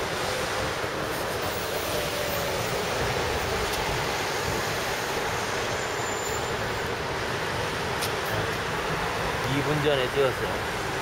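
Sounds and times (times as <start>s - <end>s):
passing traffic hiss: 0.0s - 11.0s.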